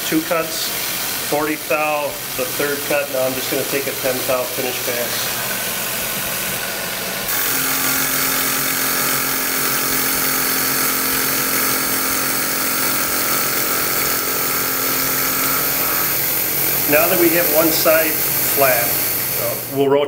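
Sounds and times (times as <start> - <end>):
milling machine whine: 0.0 - 20.0.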